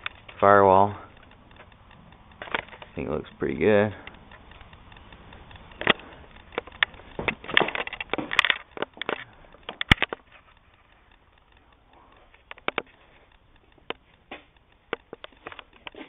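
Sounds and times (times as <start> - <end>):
handling clicks and knocks: 0.0 - 16.0
rustling: 0.0 - 16.0.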